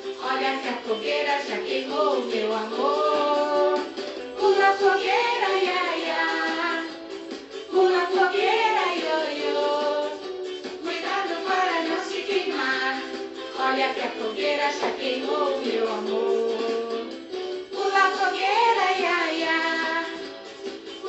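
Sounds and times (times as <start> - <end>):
high voice singing folk tune: 0.0 - 21.0
light musical backing: 0.0 - 21.0.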